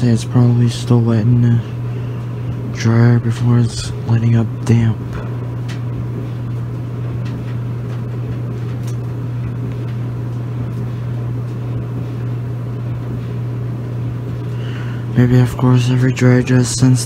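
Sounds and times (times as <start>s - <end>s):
clothes dryer humming: 0.0s - 17.0s.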